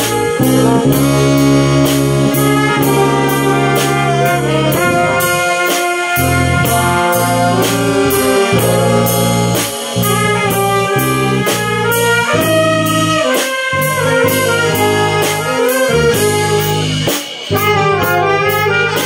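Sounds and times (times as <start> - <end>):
brass band playing: 0.0 - 19.0
drum kit beat: 0.0 - 19.0.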